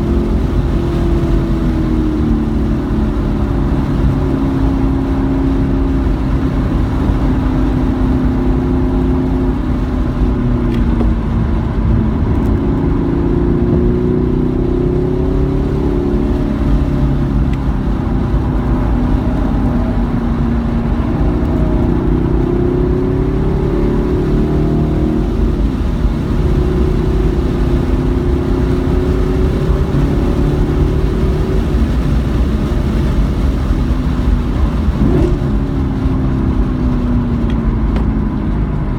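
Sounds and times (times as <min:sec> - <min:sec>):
car engine accelerating: 0:00.0 - 0:38.9
road and wind rumble: 0:00.0 - 0:38.9.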